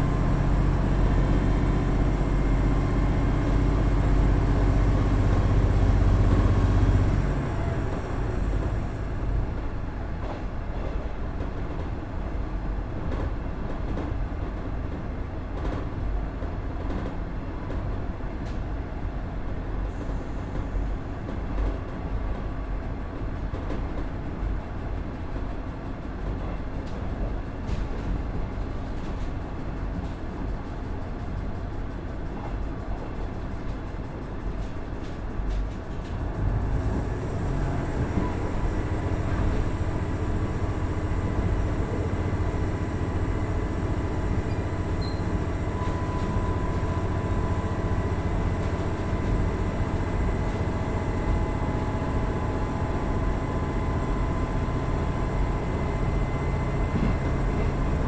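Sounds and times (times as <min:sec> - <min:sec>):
railcar diesel engine and wheels rumbling: 0:00.0 - 0:58.0.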